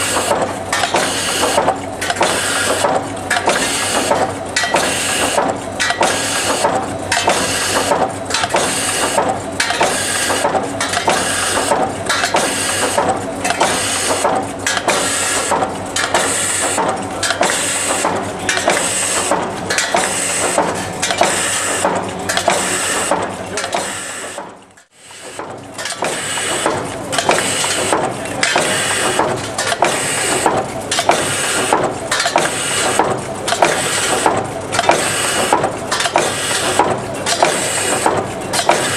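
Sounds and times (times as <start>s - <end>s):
machine rhythmic mechanical clatter: 0.0s - 38.9s.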